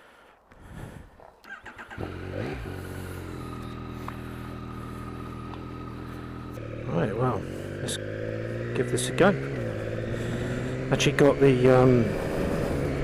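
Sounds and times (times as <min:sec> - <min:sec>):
motorcycle engine idling: 0:01.4 - 0:13.0.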